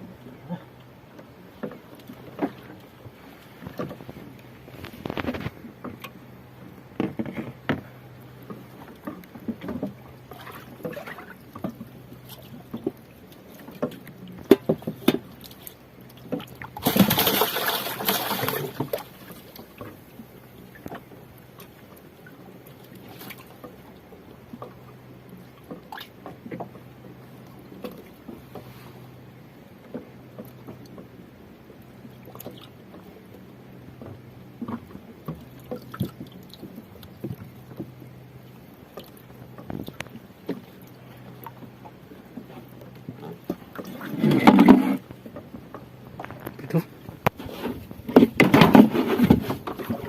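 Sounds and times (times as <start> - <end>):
knocks and clatters on a boat: 0.0 - 50.0
water trickling and lapping: 0.0 - 50.0.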